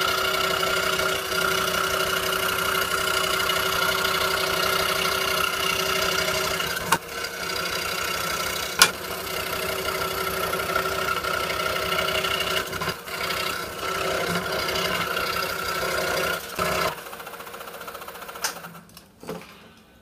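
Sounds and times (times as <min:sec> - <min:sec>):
scroll saw cutting wood: 0:00.0 - 0:18.8.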